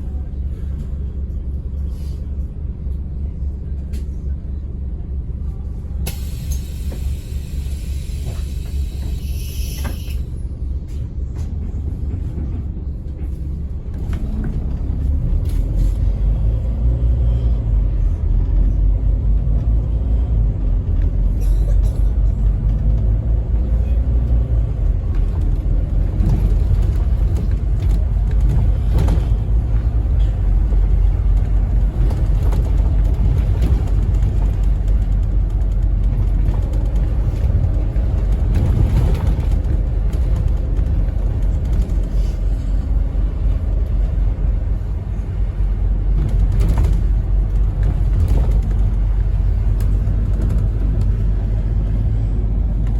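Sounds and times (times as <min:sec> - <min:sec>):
bus diesel engine rumble: 0:00.0 - 0:52.9.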